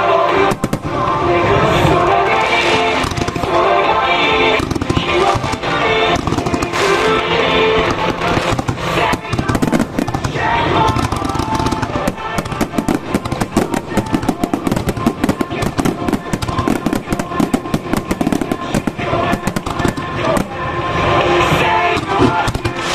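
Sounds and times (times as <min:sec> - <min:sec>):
festival music: 0:00.0 - 0:22.9
fireworks bursting and crackling: 0:00.0 - 0:22.9.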